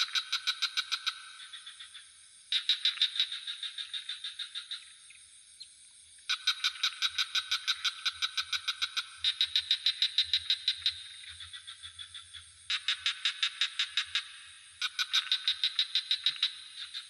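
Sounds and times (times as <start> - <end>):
frogs calling in pulsed trills: 0.0 - 17.0.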